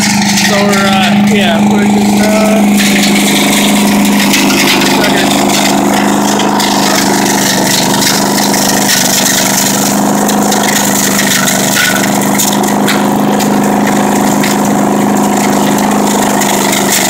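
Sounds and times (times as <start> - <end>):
leaf vacuum engine hum: 0.0 - 17.0
leaves rattling in suction hose: 0.0 - 17.0.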